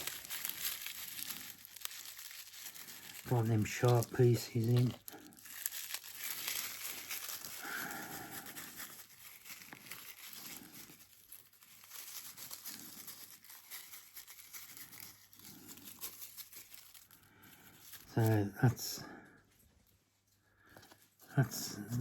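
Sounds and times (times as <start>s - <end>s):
dry leaves crumpled by hand: 0.0s - 18.8s.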